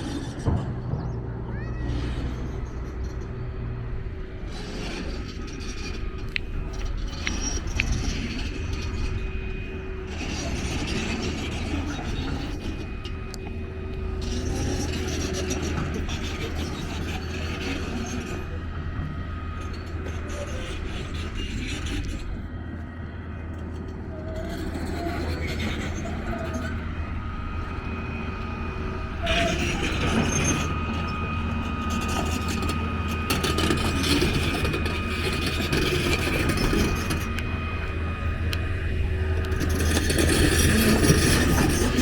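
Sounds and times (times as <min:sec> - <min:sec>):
passing vehicles rumbling: 0:00.0 - 0:42.0.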